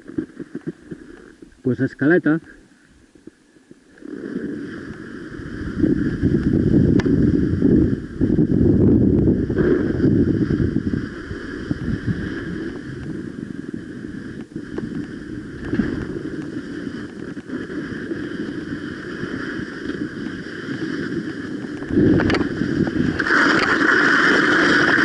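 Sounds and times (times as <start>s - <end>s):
wind on microphone: 3.8s - 25.0s
skis scraping over snow: 3.9s - 25.0s.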